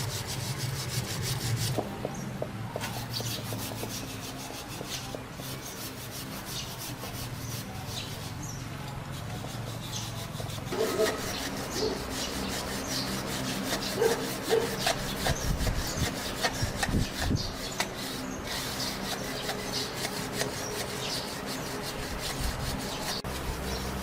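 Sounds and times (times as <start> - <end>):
rasp rubbing back and forth: 0.0 - 2.2, 2.8 - 24.0.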